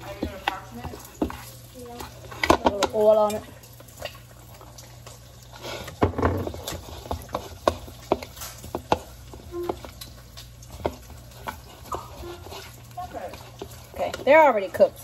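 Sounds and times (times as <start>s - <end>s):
spatula scraping a bowl: 0.0s - 3.4s, 5.5s - 14.8s.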